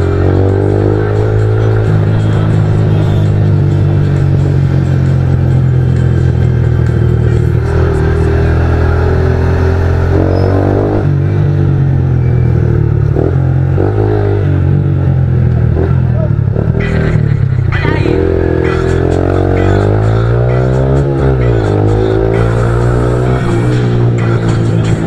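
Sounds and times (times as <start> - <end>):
motorcycle exhaust drone: 0.0 - 25.0.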